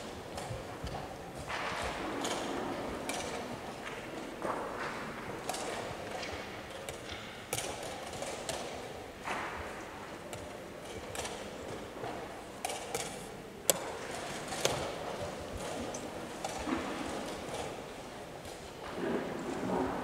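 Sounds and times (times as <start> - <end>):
low hall background: 0.0 - 20.0.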